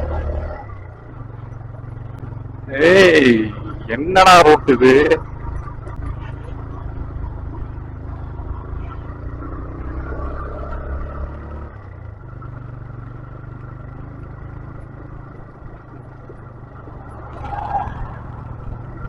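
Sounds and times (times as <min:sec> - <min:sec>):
motorcycle engine and road rumble: 0:00.0 - 0:19.0.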